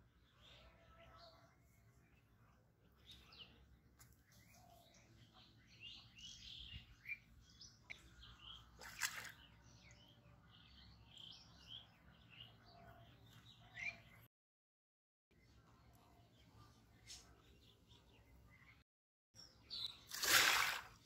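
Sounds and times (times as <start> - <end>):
small birds chirping: 0.0 - 14.3, 15.3 - 18.8, 19.4 - 21.0.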